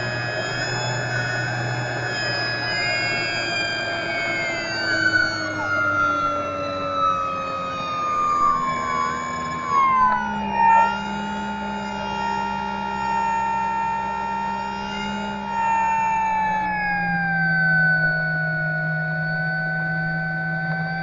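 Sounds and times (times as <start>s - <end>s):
model plane motor whining: 0.0s - 21.0s.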